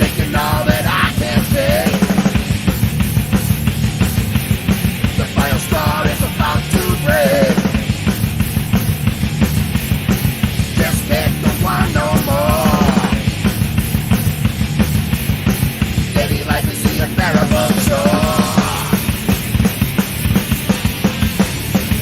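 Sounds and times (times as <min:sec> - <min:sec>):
thrash metal band playing: 0:00.0 - 0:22.0.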